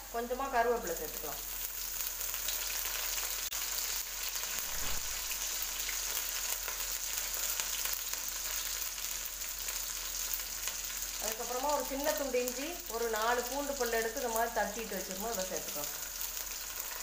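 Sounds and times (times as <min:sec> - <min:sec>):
onions and spices sizzling in oil: 0:00.0 - 0:17.0.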